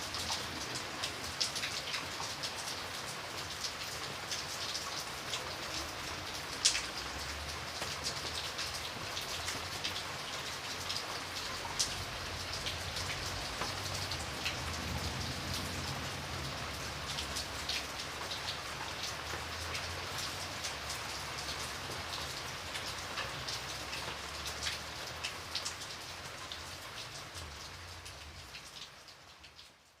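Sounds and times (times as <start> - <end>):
light rain falling: 0.0 - 30.0
raindrops striking sharply: 0.0 - 30.0.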